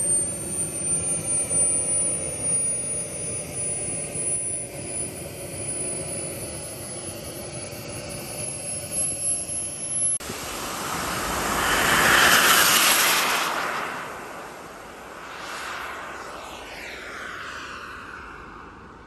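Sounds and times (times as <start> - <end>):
small jet engine idling: 0.0 - 19.0.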